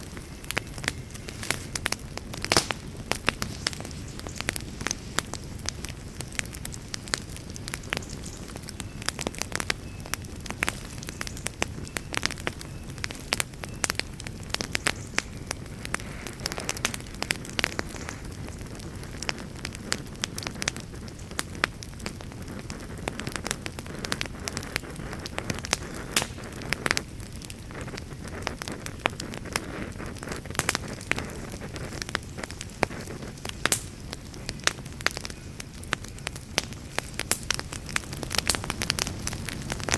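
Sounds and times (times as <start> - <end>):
campfire crackling: 0.0 - 39.9
low rush of burning fire: 0.0 - 39.9.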